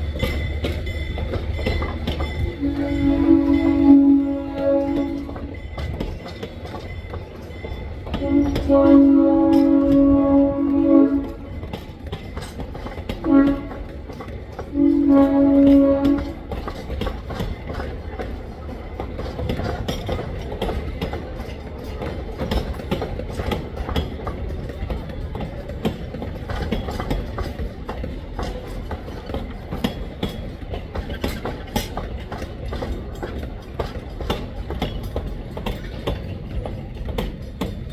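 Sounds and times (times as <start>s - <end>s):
low rumble of rolling train: 0.0s - 37.9s
train wheels clicking over rail joints: 0.0s - 37.9s.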